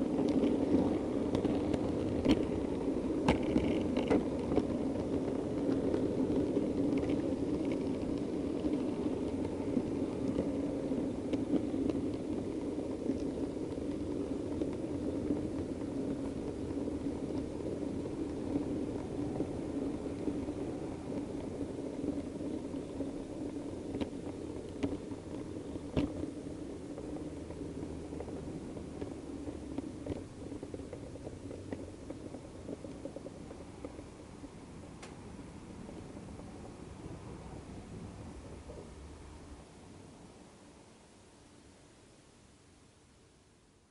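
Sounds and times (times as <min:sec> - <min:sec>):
model train motor and wheels rumbling: 0:00.0 - 0:43.9.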